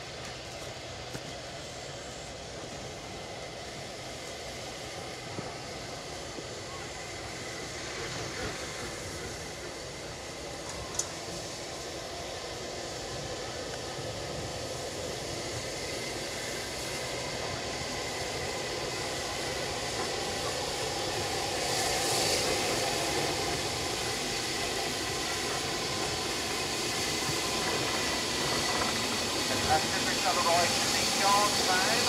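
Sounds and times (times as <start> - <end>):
steam blowing from cylinders: 0.0 - 32.0
steam locomotive hissing: 0.0 - 32.0.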